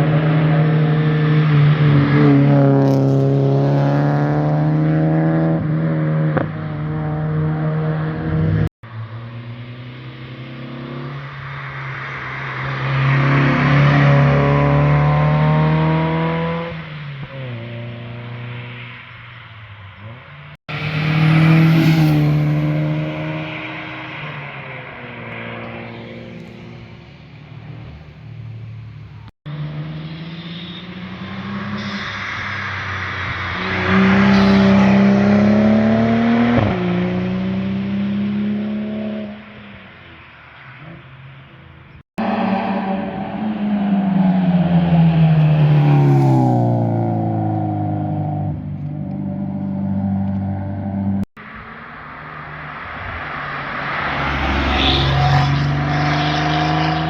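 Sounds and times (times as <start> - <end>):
sports cars revving past: 0.0 - 19.4, 20.0 - 41.6, 42.2 - 57.0.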